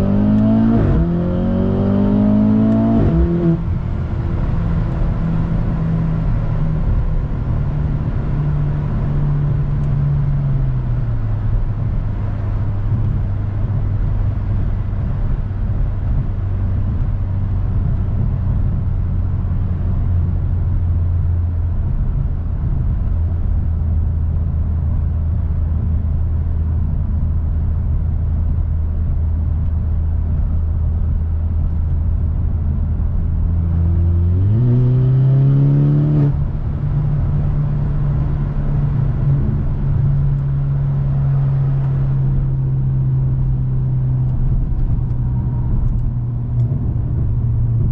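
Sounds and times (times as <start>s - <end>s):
car engine droning: 0.0s - 47.9s
road noise while driving: 0.0s - 47.9s.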